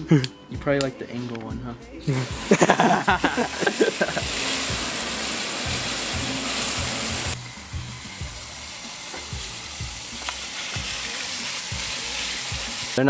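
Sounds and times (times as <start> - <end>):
hose nozzle spraying water: 2.1 - 13.0.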